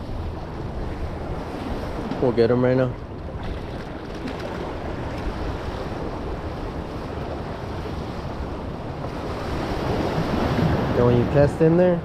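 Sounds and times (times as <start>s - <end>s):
ocean surf washing against rocks: 0.0s - 12.0s
wind buffeting microphone: 0.0s - 12.0s.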